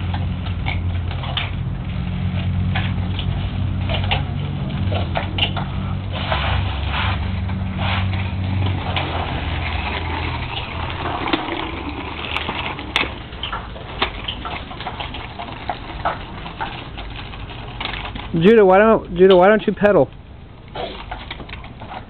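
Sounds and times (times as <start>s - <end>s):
tricycle wheels rolling on concrete: 0.0s - 22.0s.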